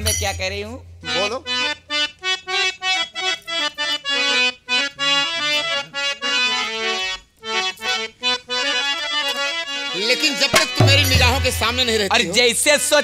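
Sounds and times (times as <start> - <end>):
harmonium melody: 0.0 - 13.0.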